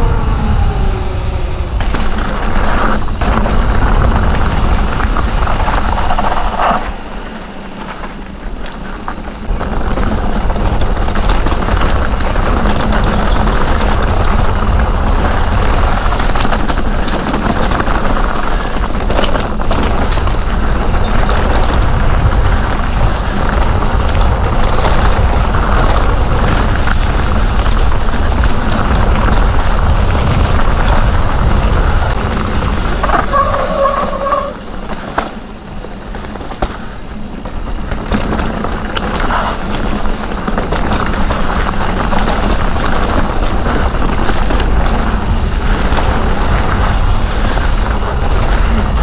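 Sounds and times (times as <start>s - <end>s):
tyres on dirt: 0.0s - 49.0s
wind buffeting on microphone: 0.0s - 49.0s
bike knocks and rattles: 1.8s - 49.0s.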